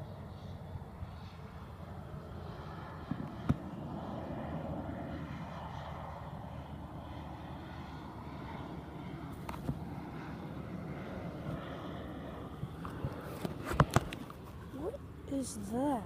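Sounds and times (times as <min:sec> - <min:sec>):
airplane engine running: 0:00.0 - 0:16.0.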